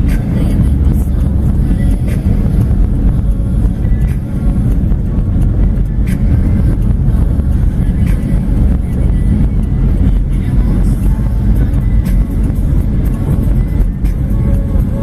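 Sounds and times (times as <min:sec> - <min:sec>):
road and wind noise inside car: 0:00.0 - 0:15.0.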